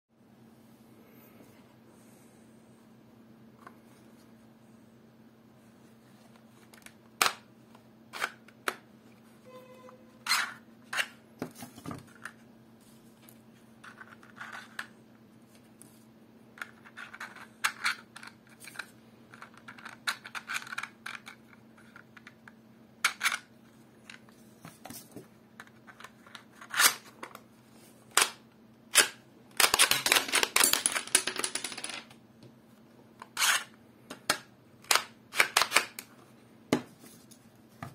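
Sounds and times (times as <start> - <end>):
faint steady hum: 0.2 - 37.9.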